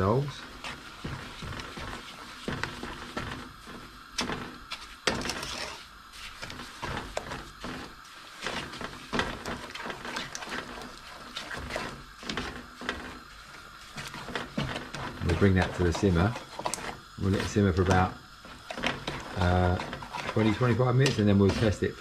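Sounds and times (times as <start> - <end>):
wooden spoon scraping metal pan: 0.0 - 22.0.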